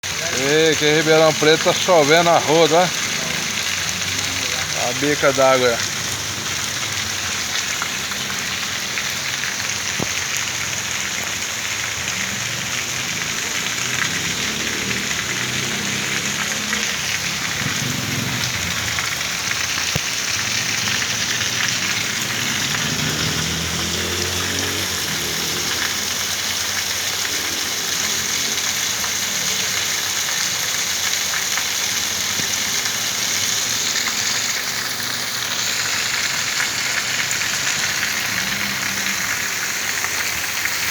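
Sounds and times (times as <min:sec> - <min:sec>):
heavy rain falling: 0:00.0 - 0:40.9
water pouring from a spout: 0:00.0 - 0:40.9.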